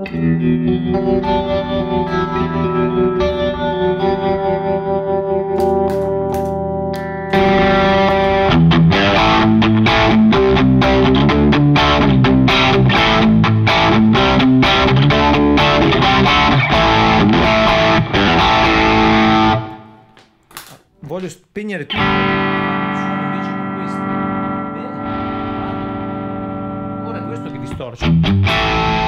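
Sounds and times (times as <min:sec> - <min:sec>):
electric guitar strummed chords: 0:00.0 - 0:20.0, 0:21.9 - 0:29.0.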